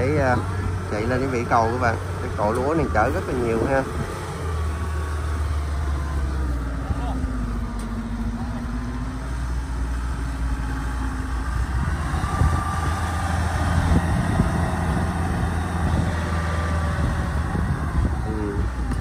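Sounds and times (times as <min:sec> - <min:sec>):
tracked vehicle engine running: 0:00.0 - 0:19.0.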